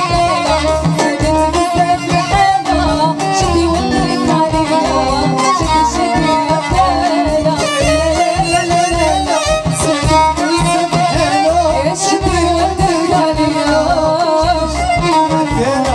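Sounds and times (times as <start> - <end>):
bass and percussion beat: 0.0 - 15.9
violin: 0.0 - 15.9
woman singing into a microphone: 0.0 - 15.9.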